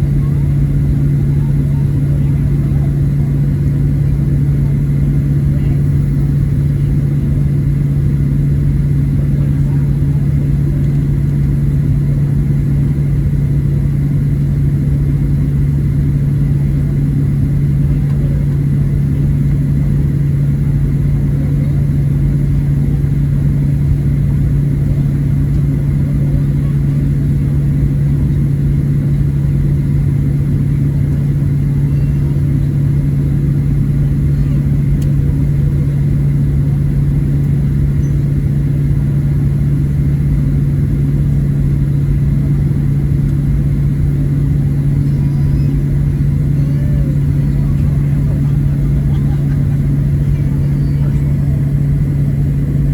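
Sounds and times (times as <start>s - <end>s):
cabin air hum: 0.0s - 52.9s
jet engines at taxi power: 0.0s - 52.9s.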